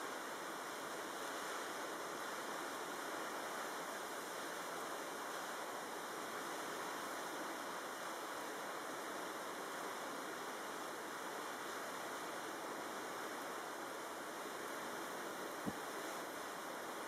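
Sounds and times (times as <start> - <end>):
choppy water: 0.0 - 17.0.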